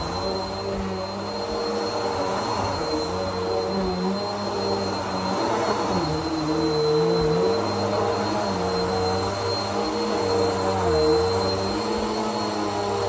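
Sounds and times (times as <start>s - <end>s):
vacuum cleaner whining: 0.0s - 13.0s.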